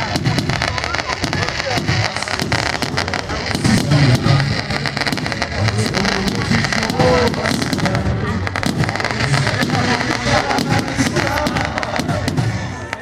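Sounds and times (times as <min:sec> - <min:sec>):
firecrackers popping rapidly: 0:00.0 - 0:13.0
hymn music from sound system: 0:02.0 - 0:13.0.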